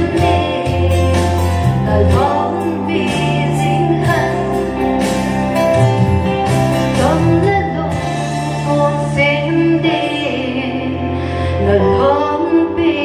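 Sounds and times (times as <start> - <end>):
women singing into microphones: 0.0 - 5.0, 6.9 - 13.0.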